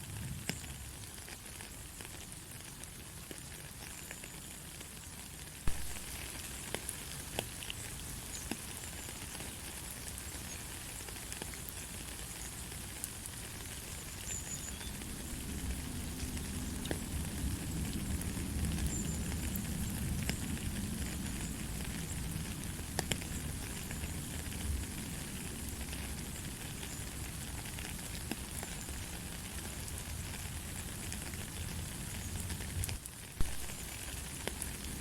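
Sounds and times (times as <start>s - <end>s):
light rain falling: 0.0s - 35.0s.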